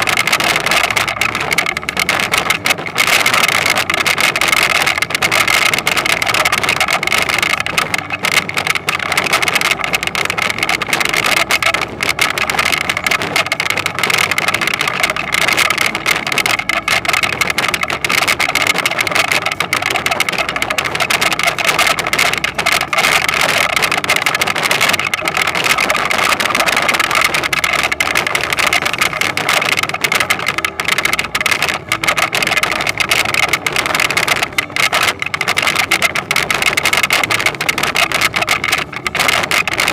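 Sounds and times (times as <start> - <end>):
harvester engine running: 0.0 - 39.9
machinery clattering: 0.0 - 39.9.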